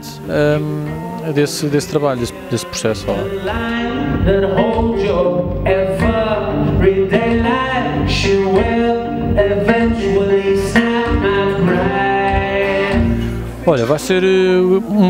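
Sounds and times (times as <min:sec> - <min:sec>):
acoustic guitar: 0:00.0 - 0:15.0
man singing: 0:00.0 - 0:15.0.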